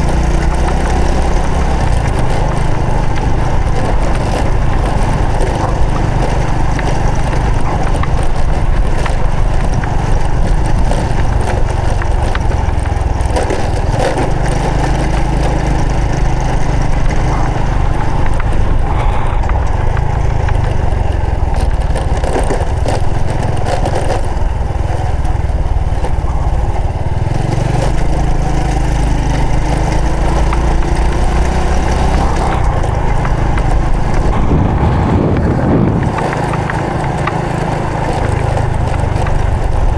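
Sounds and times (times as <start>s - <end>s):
motorcycle engine running: 0.0s - 39.9s
wind and road rush: 0.0s - 39.9s.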